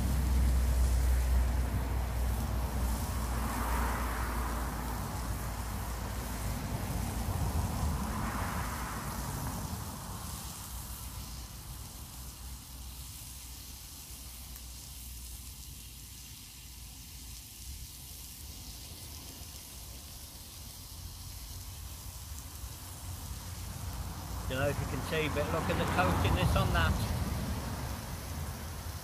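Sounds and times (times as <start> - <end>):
meat sizzling in a frying pan: 0.0 - 29.0.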